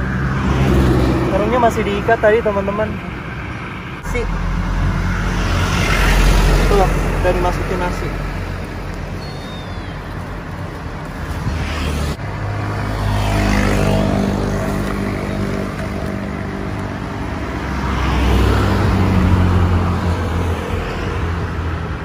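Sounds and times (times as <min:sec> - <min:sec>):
vehicles passing on road: 0:00.0 - 0:22.0.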